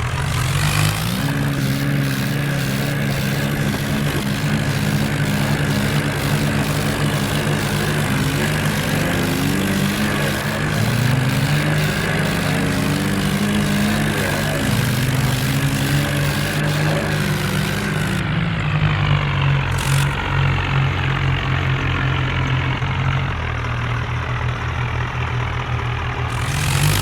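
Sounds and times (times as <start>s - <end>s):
tractor diesel engines under load: 0.0s - 27.0s.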